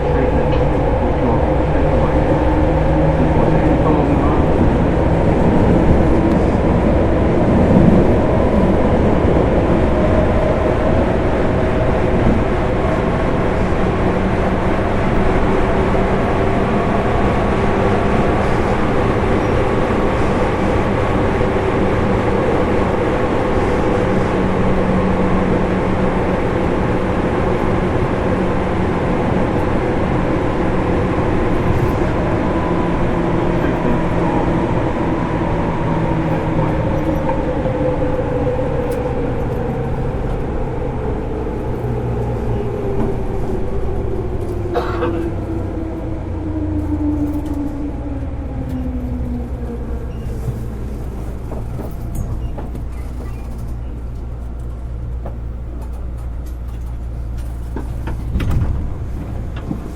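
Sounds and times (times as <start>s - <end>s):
train car rumble: 0.0s - 59.9s.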